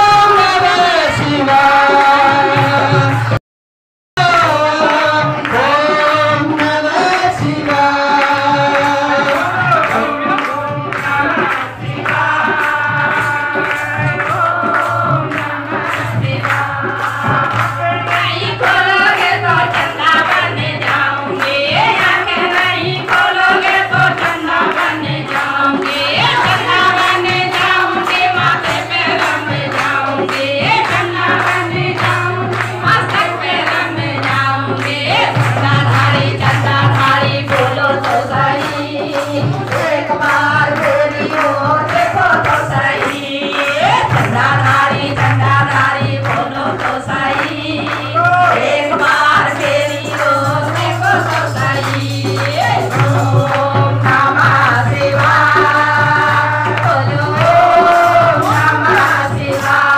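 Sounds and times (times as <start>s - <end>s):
song with voices singing: 0.0s - 3.4s, 4.2s - 59.9s.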